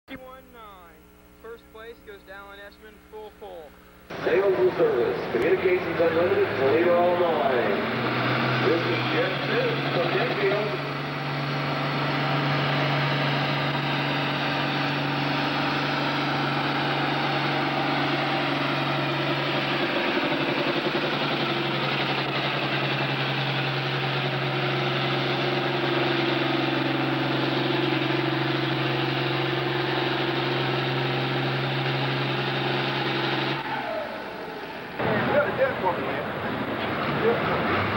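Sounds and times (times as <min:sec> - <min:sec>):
tractor diesel engine droning: 0:04.1 - 0:37.9.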